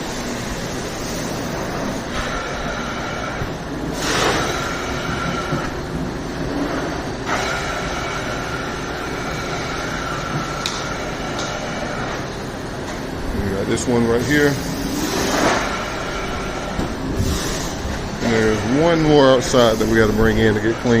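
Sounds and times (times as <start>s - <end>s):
cleaning machine rushing: 0.0s - 21.0s.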